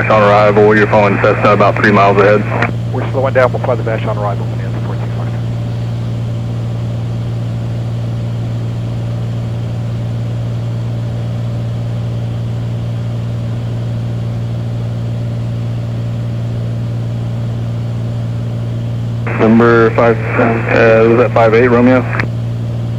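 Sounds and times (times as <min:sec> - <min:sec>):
propeller aircraft engine droning: 0:00.0 - 0:22.9.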